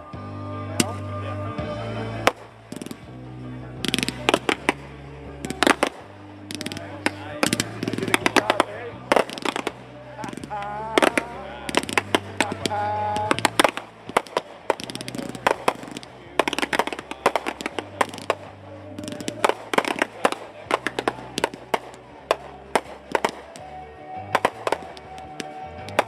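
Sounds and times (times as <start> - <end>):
music playing: 0.0 - 26.0
fireworks bangs and crackles: 2.1 - 26.0.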